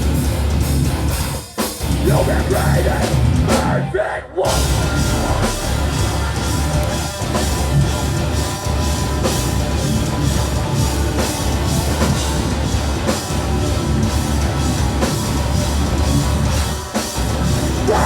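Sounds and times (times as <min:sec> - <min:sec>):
bass guitar: 0:00.0 - 0:18.0
distorted electric guitars: 0:00.0 - 0:18.0
drum kit heavy beat: 0:00.0 - 0:18.0.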